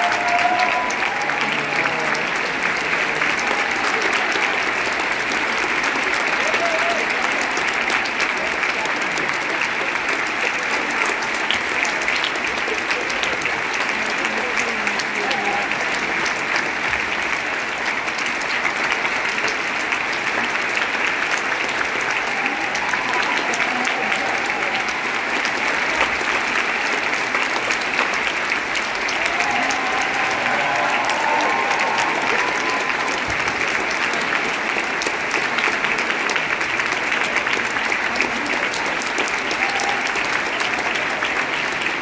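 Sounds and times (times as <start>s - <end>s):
audience applauding: 0.0s - 42.0s.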